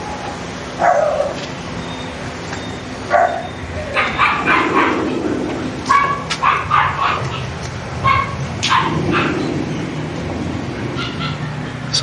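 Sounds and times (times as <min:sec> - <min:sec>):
dogs barking: 0:00.0 - 0:01.6, 0:02.9 - 0:12.0.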